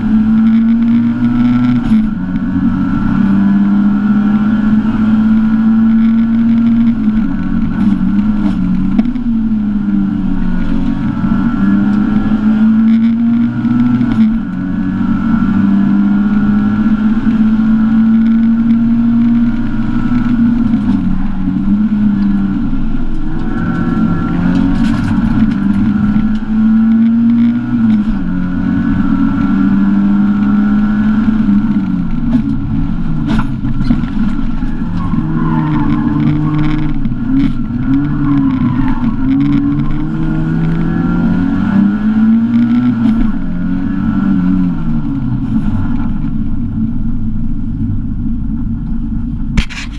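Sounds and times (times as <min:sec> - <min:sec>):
rally car engine at high revs: 0:00.0 - 0:49.9.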